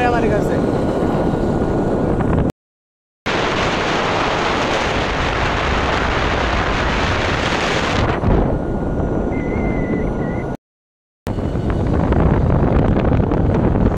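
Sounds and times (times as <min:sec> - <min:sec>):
motorbike road and engine noise: 0:00.0 - 0:02.5, 0:03.3 - 0:10.6, 0:11.3 - 0:13.9
wind rushing over microphone: 0:00.0 - 0:02.5, 0:03.3 - 0:10.6, 0:11.3 - 0:13.9.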